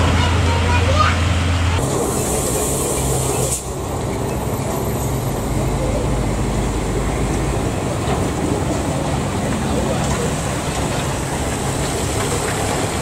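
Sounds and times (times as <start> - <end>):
truck engine at low speed: 0.0 - 13.0.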